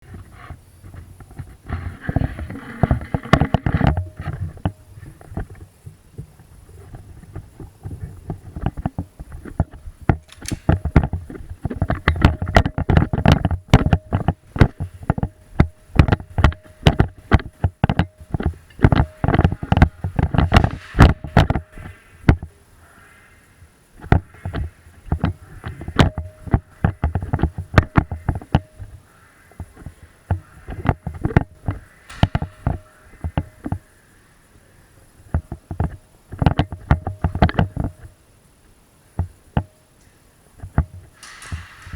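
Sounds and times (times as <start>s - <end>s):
sharp knocks and clicks: 0.9s - 22.5s, 24.0s - 34.0s, 35.3s - 38.1s, 40.6s - 41.9s.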